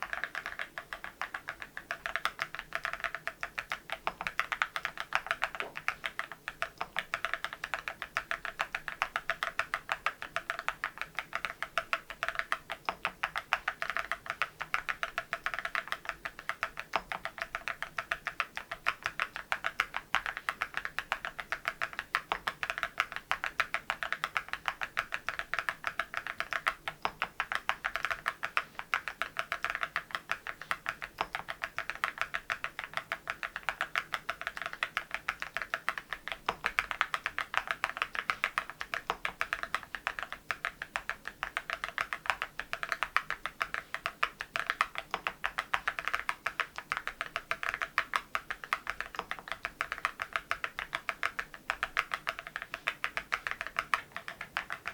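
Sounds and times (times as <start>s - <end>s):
fast mechanical keyboard typing: 0.0s - 54.9s.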